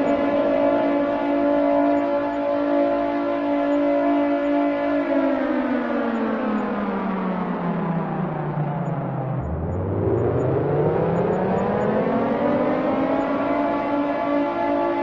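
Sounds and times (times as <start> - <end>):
air raid siren wailing: 0.0 - 15.0.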